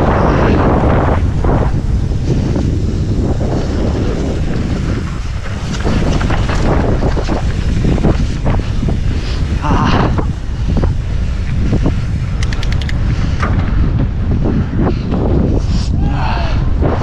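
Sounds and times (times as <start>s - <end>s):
bike knocks and rattles: 0.0s - 15.6s
wind buffeting microphone: 0.0s - 17.0s.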